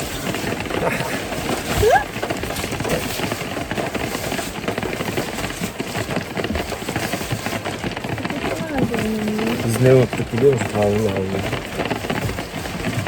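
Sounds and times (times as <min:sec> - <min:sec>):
heavy rain on shelter: 0:00.0 - 0:13.0.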